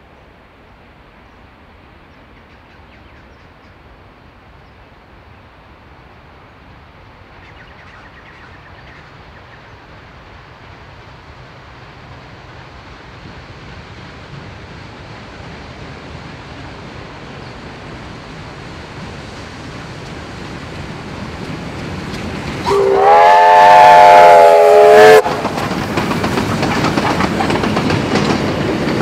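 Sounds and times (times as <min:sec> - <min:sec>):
steam train rumble: 0:00.0 - 0:29.0.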